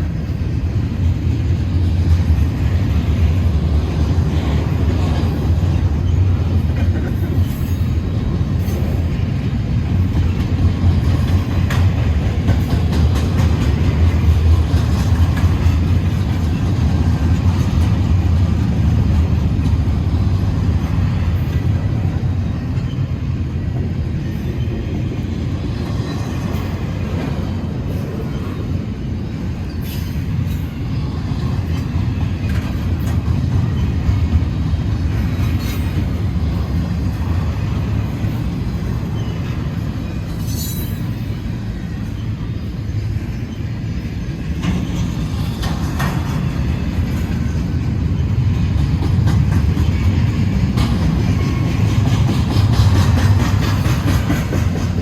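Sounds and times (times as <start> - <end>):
train cars clanking: 0.0 - 55.0
wheels rumbling on rail: 0.0 - 55.0.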